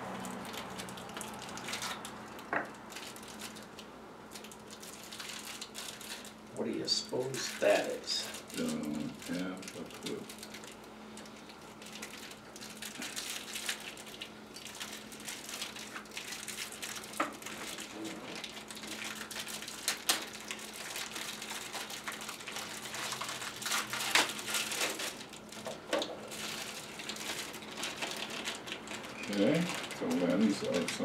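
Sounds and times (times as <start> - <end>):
plastic packaging crinkling: 0.0 - 31.0.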